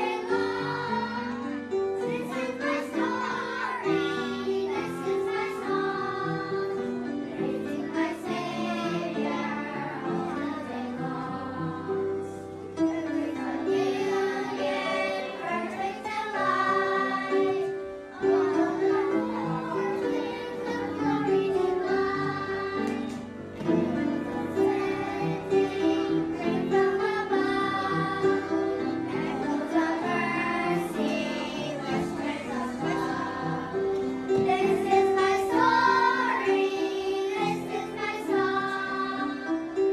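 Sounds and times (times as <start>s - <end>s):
voices singing together: 0.0s - 39.8s
instrumental backing track: 0.0s - 39.9s.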